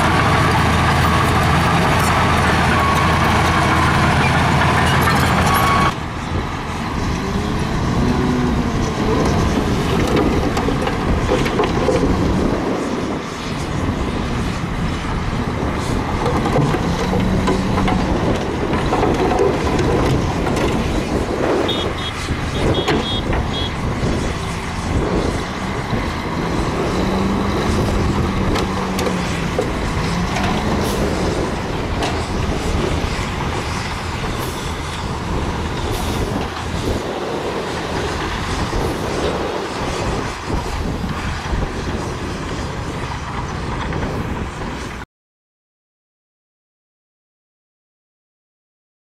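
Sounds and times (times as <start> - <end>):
diesel truck engine running: 0.0 - 44.8.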